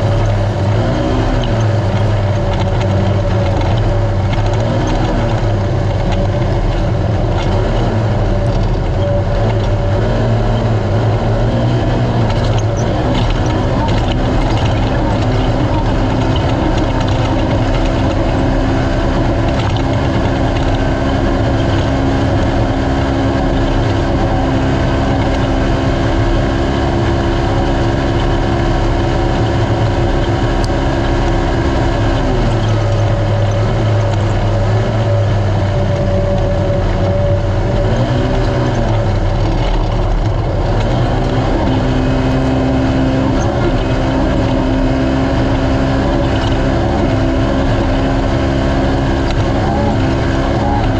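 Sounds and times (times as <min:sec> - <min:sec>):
constant rushing noise: 0:00.0 - 0:50.9
side-by-side engine running hard: 0:00.0 - 0:50.9.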